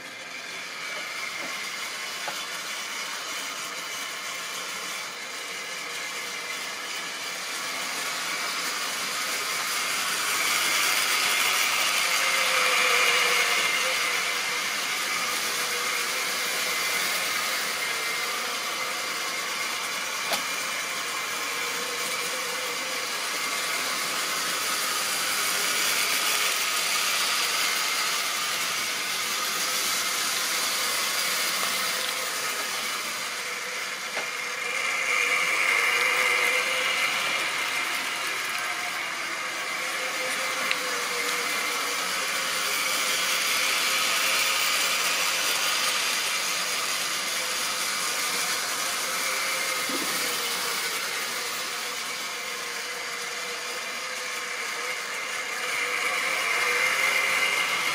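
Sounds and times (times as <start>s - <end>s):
electric motors whirring: 0.0s - 57.9s.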